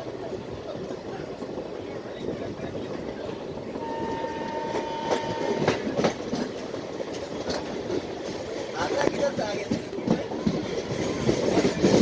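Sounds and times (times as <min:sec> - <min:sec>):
train coaches rumbling: 0:00.0 - 0:12.0
wheels clattering over rail joints: 0:00.0 - 0:12.0.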